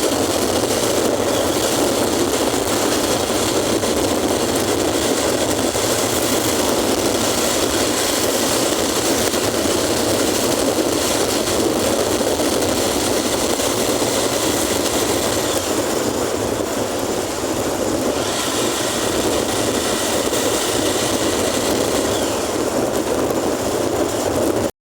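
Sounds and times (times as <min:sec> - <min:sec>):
vehicle engine and wet road rush: 0:00.0 - 0:24.7.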